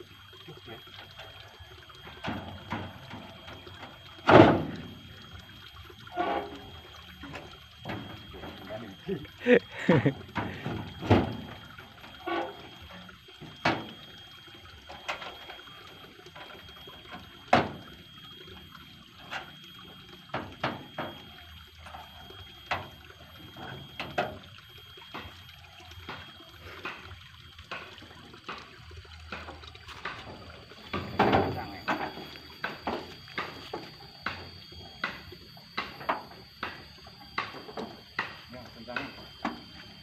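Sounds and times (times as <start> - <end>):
water running in a channel: 0.0 - 40.0.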